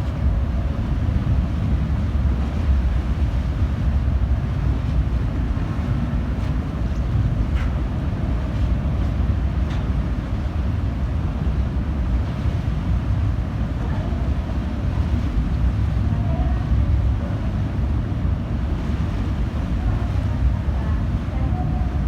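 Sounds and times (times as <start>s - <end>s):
ship low rumble: 0.0s - 22.0s
water around ship: 0.0s - 22.0s.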